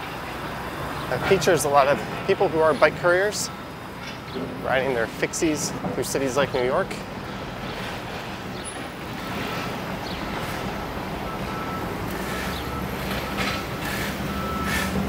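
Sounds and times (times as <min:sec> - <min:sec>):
city street traffic: 0:00.0 - 0:15.0
heavy vehicle engine humming: 0:00.0 - 0:15.0.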